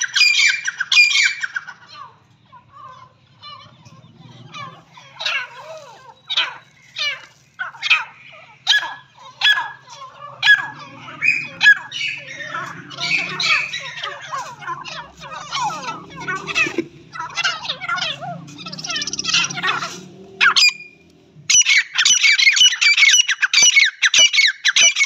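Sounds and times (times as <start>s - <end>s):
birds squawking calls: 0.0s - 25.0s.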